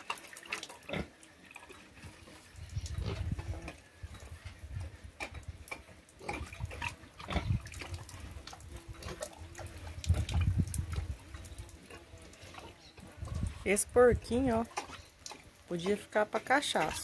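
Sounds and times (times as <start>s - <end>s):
pigs grunting and snuffling: 0.0s - 17.0s.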